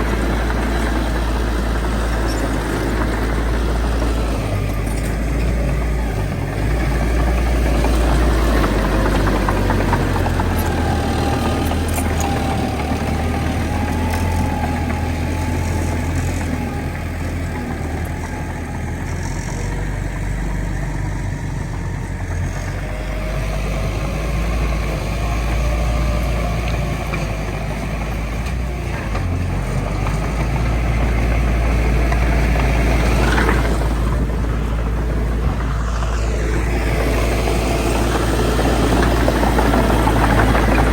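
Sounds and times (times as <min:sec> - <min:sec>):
heavy diesel machinery rumbling: 0:00.0 - 0:40.9.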